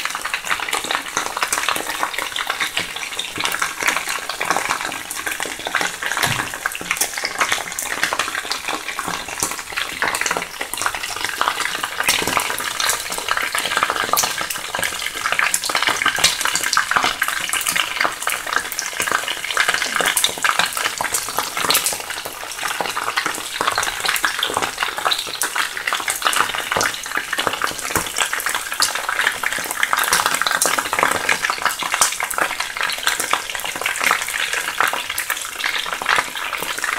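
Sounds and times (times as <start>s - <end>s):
wings frying in hot oil: 0.0s - 36.9s.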